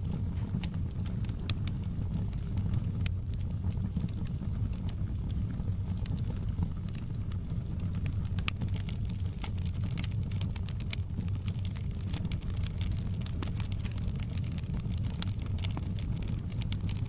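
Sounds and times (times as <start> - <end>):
burning logs crackling: 0.0 - 17.0
fire rumbling: 0.0 - 17.0.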